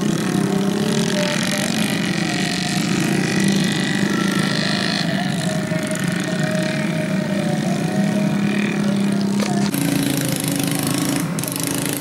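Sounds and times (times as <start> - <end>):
small motorcycle engines running: 0.0 - 12.0.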